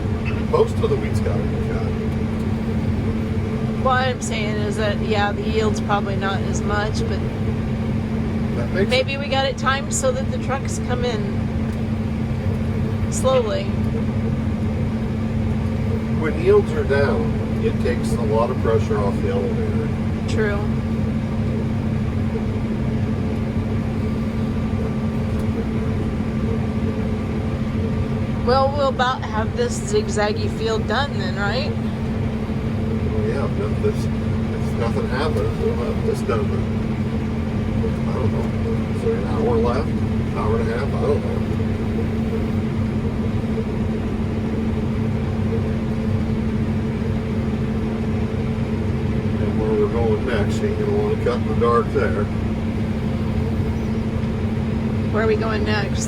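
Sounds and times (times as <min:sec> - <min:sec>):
engine and machinery droning: 0:00.0 - 0:56.0.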